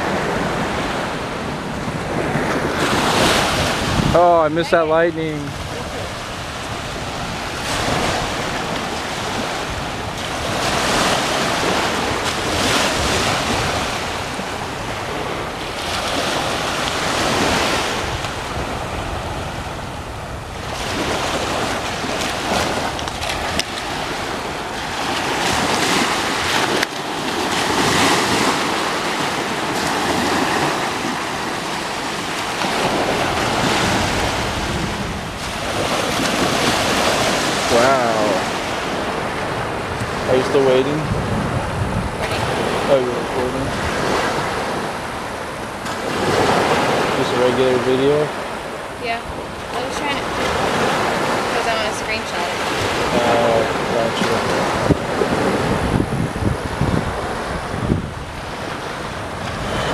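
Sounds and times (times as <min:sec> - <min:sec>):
small waves breaking on sand: 0:00.0 - 0:59.9
wind buffeting microphone: 0:00.0 - 0:59.9.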